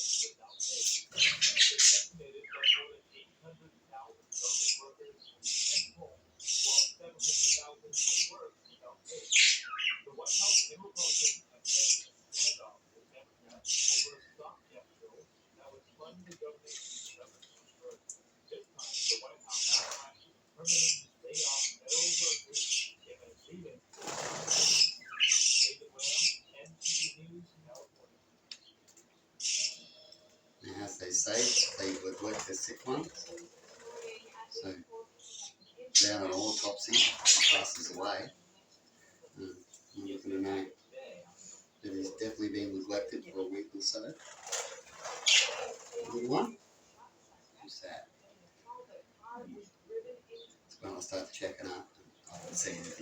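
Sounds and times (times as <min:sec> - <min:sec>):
nestling birds begging calls: 0:00.0 - 0:12.8, 0:13.5 - 0:27.8, 0:28.5 - 0:47.0, 0:50.4 - 0:53.0.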